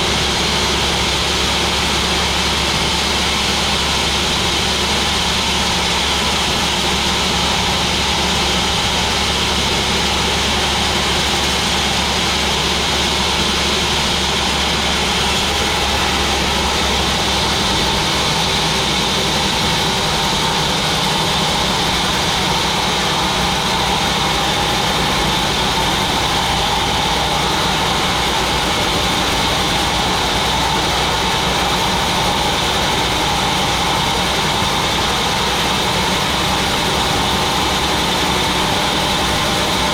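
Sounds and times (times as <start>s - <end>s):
sawmill machine droning: 0.0s - 39.9s.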